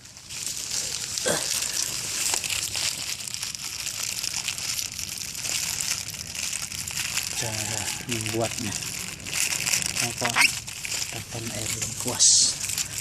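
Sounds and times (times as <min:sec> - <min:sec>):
crackling hiss: 0:00.0 - 0:13.0.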